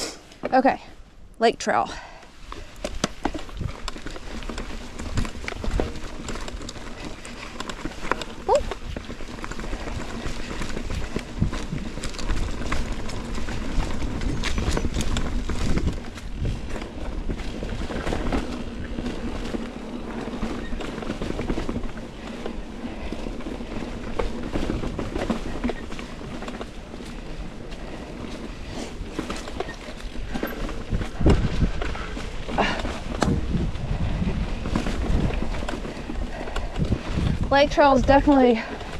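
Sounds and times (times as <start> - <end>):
bike knocking and rattling: 1.9 - 38.9
bike tyre noise on dirt: 1.9 - 38.9.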